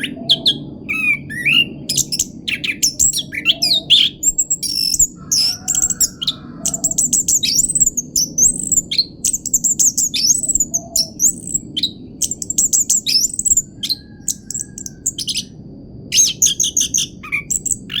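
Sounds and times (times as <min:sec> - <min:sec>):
thrush singing trills and whistles: 0:00.0 - 0:18.0.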